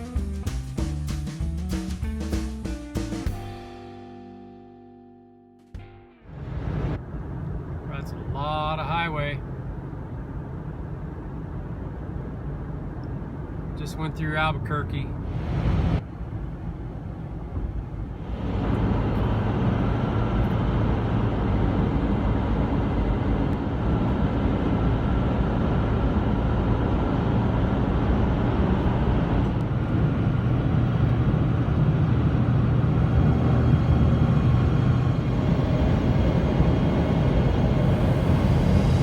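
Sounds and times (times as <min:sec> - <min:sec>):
engine hum inside vehicle: 0:06.2 - 0:39.0.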